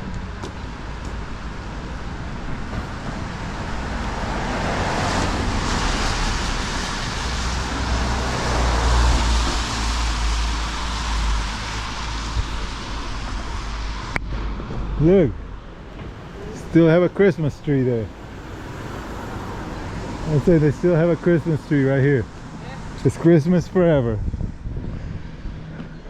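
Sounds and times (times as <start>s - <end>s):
car passing with tyre hiss: 0.5s - 14.2s, 15.1s - 26.0s.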